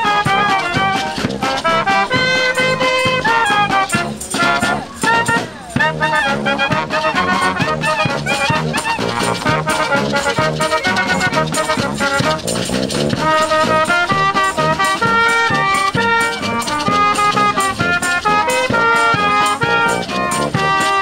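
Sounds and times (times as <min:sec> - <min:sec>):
sousaphone bass line: 0:00.0 - 0:20.7
snare and bass drum beat: 0:00.0 - 0:21.0
trumpets playing melody: 0:00.0 - 0:21.0.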